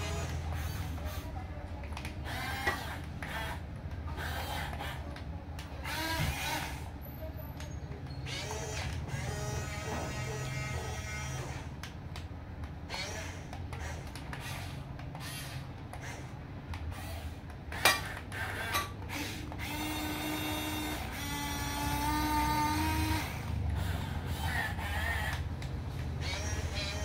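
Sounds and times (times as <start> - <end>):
electric gear motors whining: 0.0 - 27.0.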